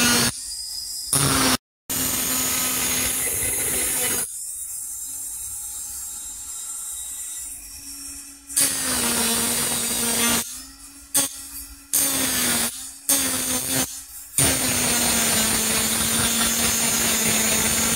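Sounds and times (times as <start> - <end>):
burr grinding metal: 0.0 - 17.9
rotary tool motor hum: 0.0 - 17.9.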